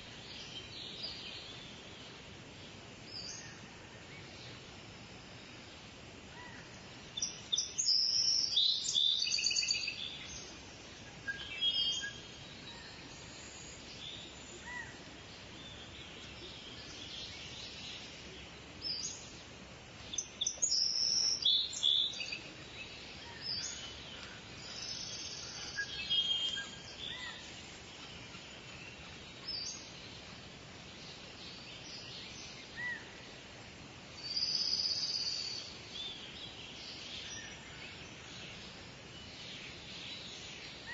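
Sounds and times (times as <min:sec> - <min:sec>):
birds chirping: 0:00.0 - 0:40.9
steady background hiss: 0:00.0 - 0:40.9.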